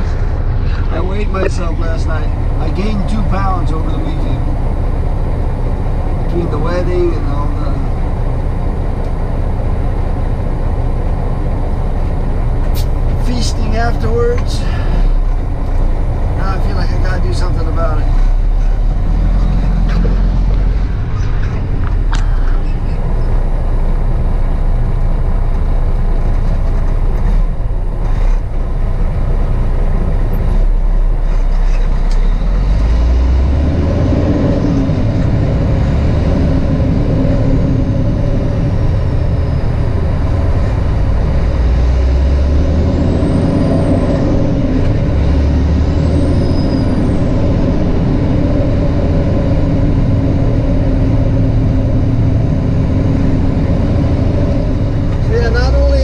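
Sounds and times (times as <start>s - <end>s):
truck diesel engine: 0.0s - 56.0s.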